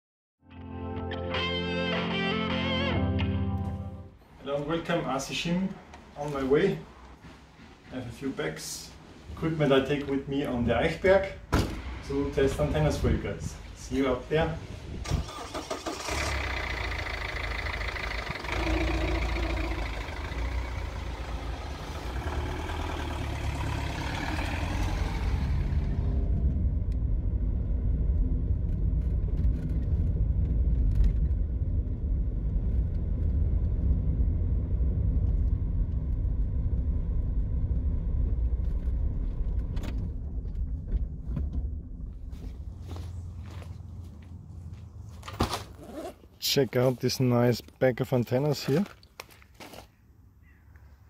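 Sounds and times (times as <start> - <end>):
car engine and road rumble: 4.2 - 47.2.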